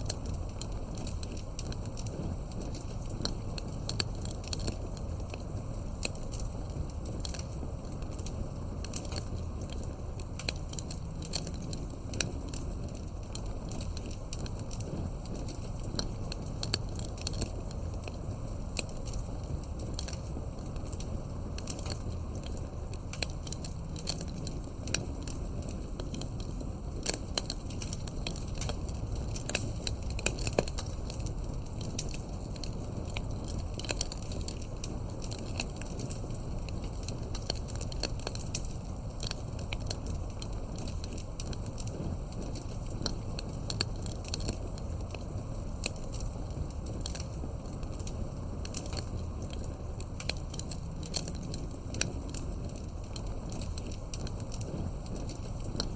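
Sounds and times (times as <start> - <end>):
campfire crackling: 0.0 - 55.9
low steady rumble: 0.0 - 55.9.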